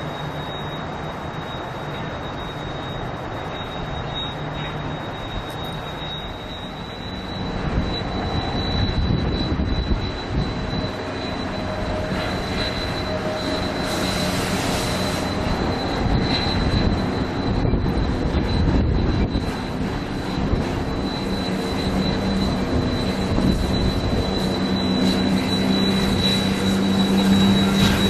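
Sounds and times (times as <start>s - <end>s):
diesel locomotive engine drone: 0.0s - 28.0s
high whine: 0.0s - 28.0s.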